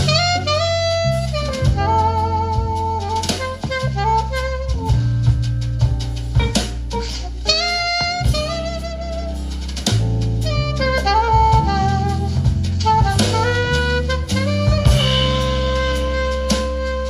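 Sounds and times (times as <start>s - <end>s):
drums and bass: 0.0s - 17.0s
jazz saxophone melody: 0.0s - 17.0s.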